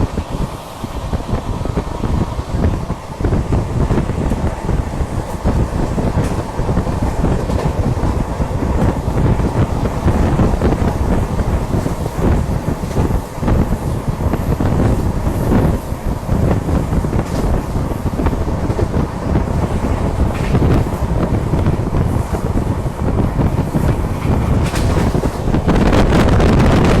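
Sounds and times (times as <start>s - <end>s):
train rumbling and clattering: 0.0s - 27.0s
wind buffeting microphone: 0.0s - 27.0s.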